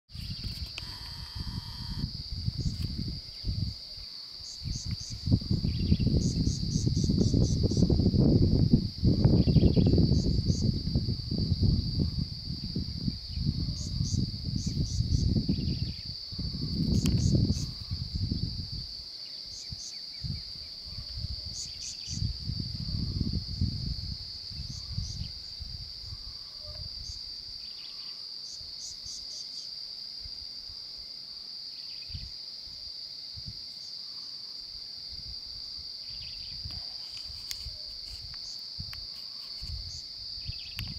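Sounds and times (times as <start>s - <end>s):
wind on microphone: 0.1s - 27.6s, 32.1s - 32.4s, 33.3s - 33.7s, 35.1s - 40.9s
high-pitched insect drone: 0.1s - 30.8s, 31.4s - 40.9s.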